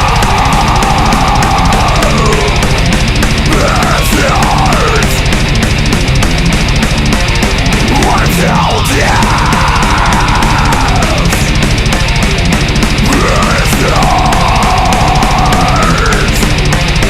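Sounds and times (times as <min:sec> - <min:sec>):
fast drumming: 0:00.0 - 0:17.0
heavy distorted guitars: 0:00.0 - 0:17.0.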